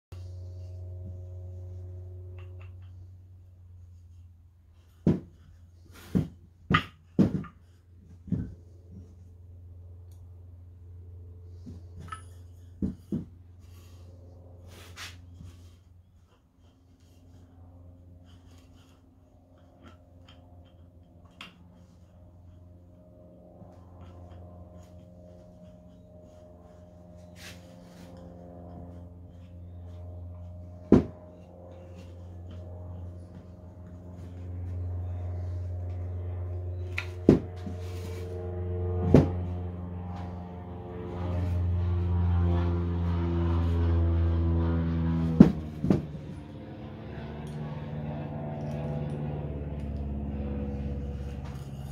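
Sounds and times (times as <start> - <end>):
low room hum: 0.1 - 51.9.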